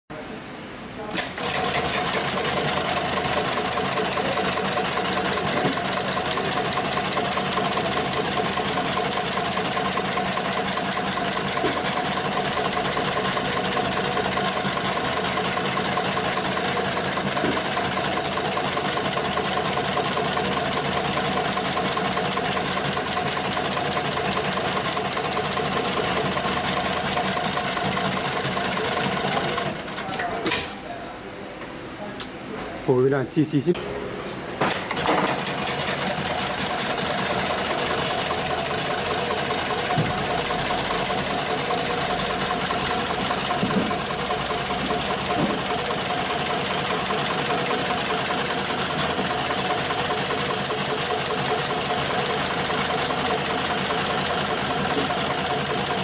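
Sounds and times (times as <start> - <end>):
industrial sewing machine clatter: 1.1 - 30.4, 34.6 - 56.0.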